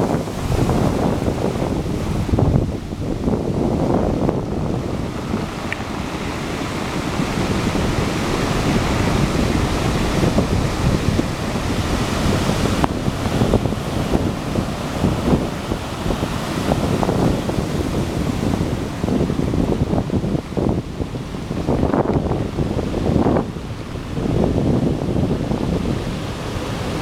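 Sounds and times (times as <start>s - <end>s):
heavy surf on rocky shore: 0.0s - 27.0s
wind buffeting microphone: 0.0s - 27.0s.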